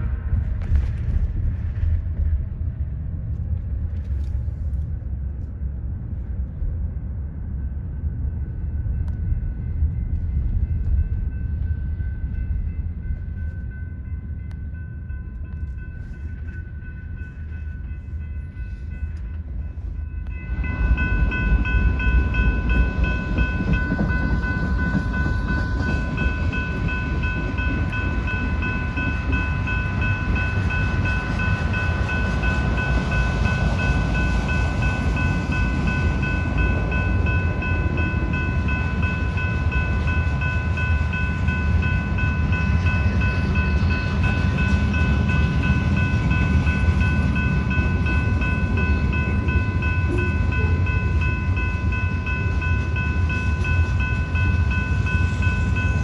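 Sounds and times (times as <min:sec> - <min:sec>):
train wheels rumbling on rail: 0:00.0 - 0:56.0
high ringing tones: 0:10.7 - 0:56.0.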